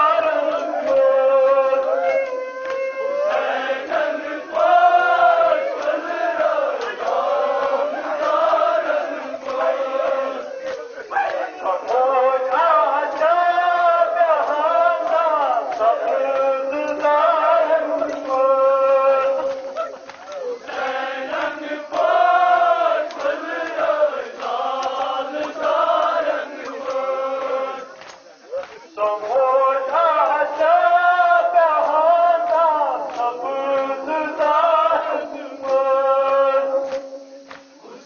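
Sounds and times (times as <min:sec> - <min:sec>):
men chanting a lament: 0:00.0 - 0:38.0.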